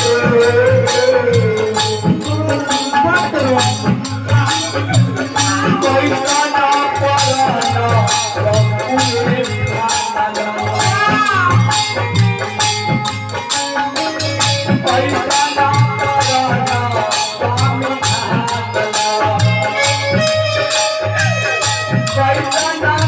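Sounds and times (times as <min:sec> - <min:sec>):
person singing: 0:00.0 - 0:12.5, 0:13.6 - 0:23.0
rattling percussion beat: 0:00.0 - 0:23.0.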